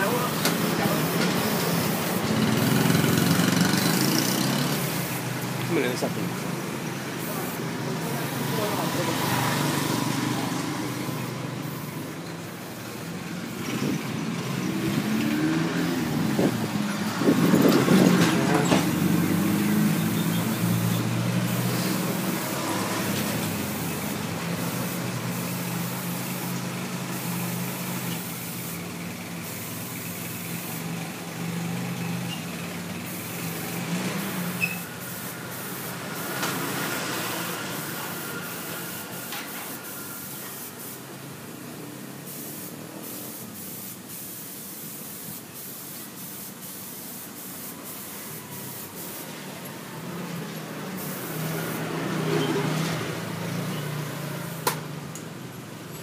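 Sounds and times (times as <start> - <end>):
airbrush hissing: 0.0 - 18.2, 18.8 - 41.2, 42.2 - 49.3, 50.8 - 52.3.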